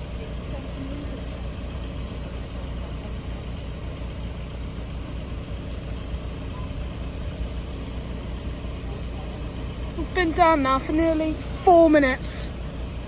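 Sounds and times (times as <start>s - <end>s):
engines idling: 0.0s - 13.0s.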